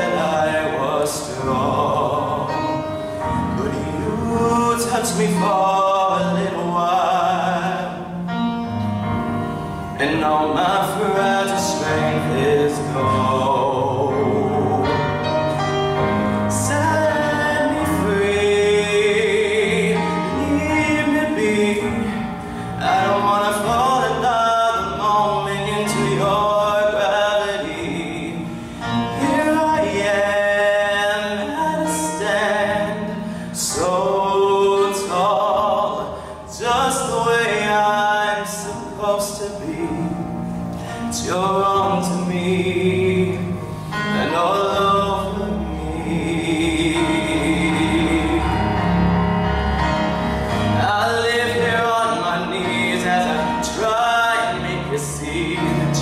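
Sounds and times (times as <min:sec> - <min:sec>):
man singing into a microphone: 0:00.0 - 0:08.8, 0:09.9 - 0:56.0.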